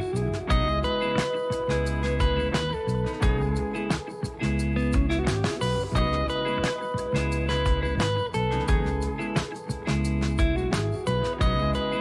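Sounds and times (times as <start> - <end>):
guitar music with bass and beat: 0.0 - 12.0.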